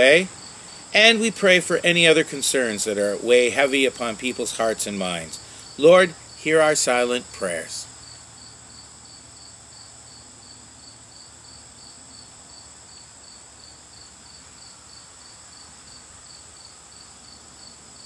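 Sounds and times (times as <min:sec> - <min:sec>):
crickets chirping: 0:00.0 - 0:18.0
high insect trill: 0:00.0 - 0:18.0.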